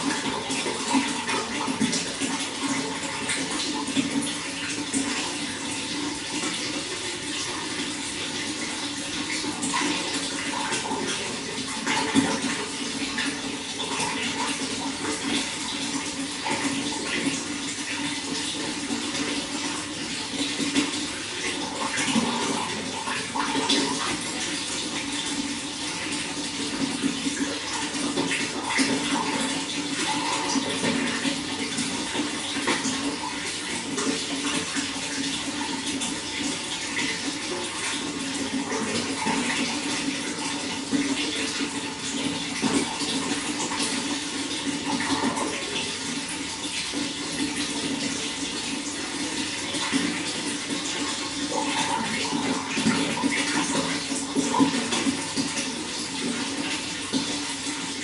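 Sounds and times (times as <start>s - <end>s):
running water flowing: 0.0s - 58.0s.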